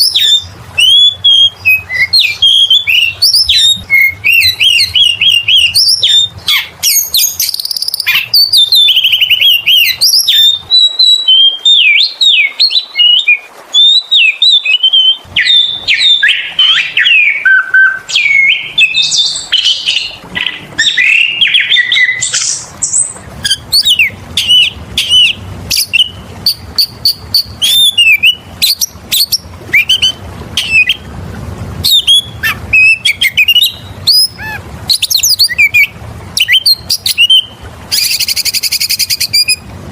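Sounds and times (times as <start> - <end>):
bird singing with whistles and trills: 0.0 - 31.1, 31.8 - 39.7.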